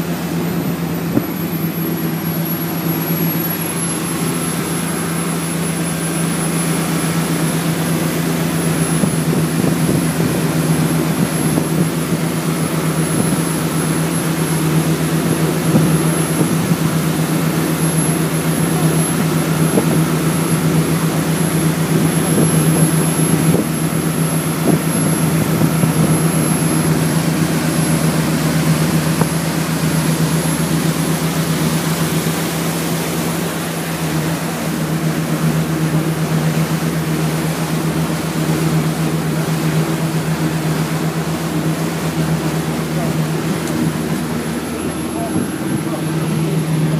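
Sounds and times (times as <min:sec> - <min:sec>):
boat diesel engine droning: 0:00.0 - 0:46.9.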